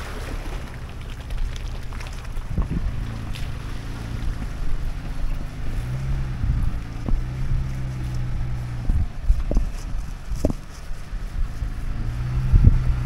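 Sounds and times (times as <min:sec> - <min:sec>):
engine running at low revs: 0:00.0 - 0:13.0
tyres splashing through water: 0:00.0 - 0:13.0.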